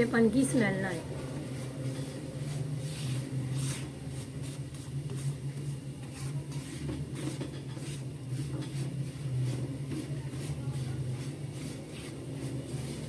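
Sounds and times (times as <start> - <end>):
spatula scraping a wok: 0.2 - 13.0.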